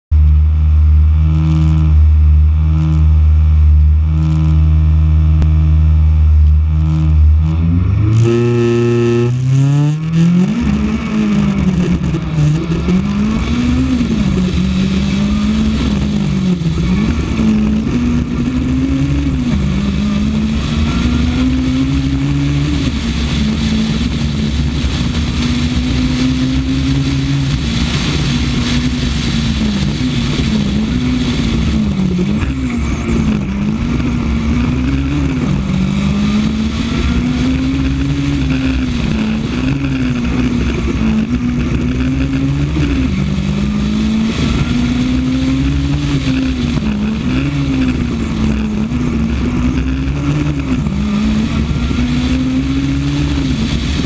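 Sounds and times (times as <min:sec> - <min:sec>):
rally car engine revving: 0:00.0 - 0:54.0
road and tyre noise: 0:00.0 - 0:54.0.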